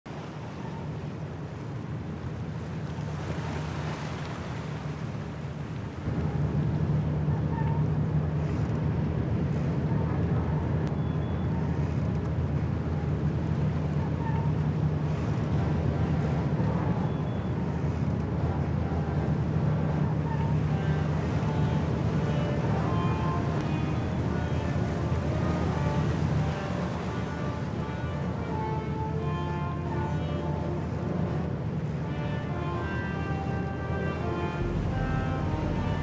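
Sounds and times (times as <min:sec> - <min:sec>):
sea wash: 0:00.0 - 0:36.0
wind: 0:00.0 - 0:36.0
low engine drone: 0:00.1 - 0:36.0.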